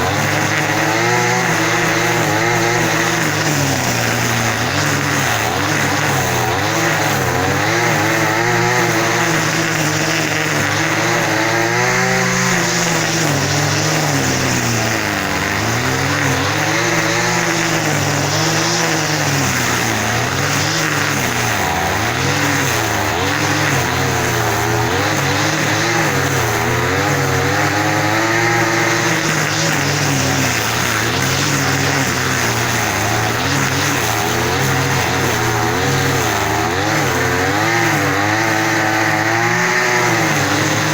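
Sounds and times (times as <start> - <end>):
engine running loudly: 0.0 - 40.9.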